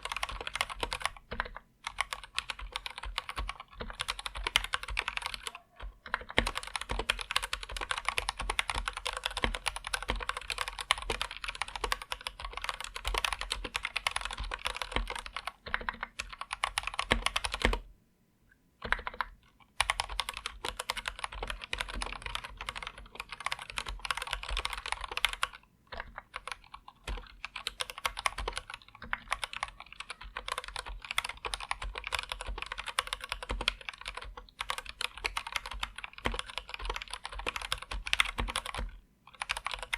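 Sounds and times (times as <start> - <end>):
mechanical keyboard typing: 0.0 - 17.9, 18.8 - 39.9.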